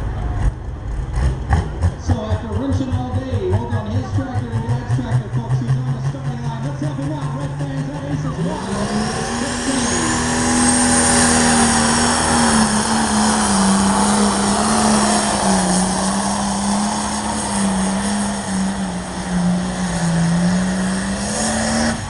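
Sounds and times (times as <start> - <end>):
truck engine running at high revs: 0.0 - 22.0.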